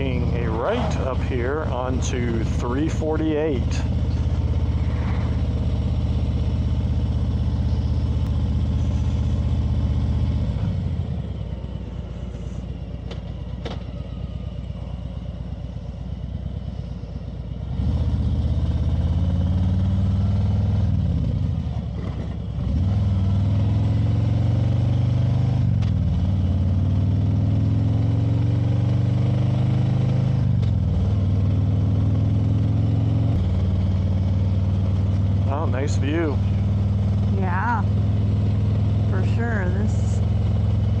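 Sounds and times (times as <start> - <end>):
motorcycle engine shifting gears: 0.0 - 16.6, 17.6 - 41.0.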